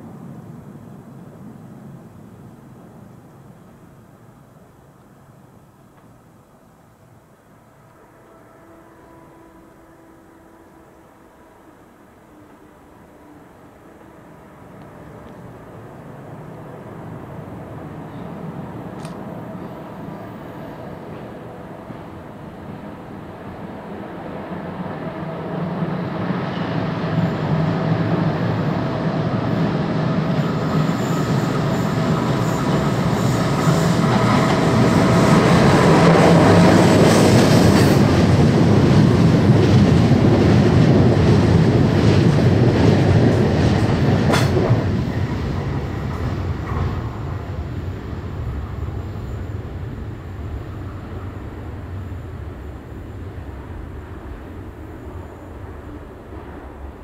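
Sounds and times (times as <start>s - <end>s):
train rumble and wheel clatter: 0.0s - 57.0s.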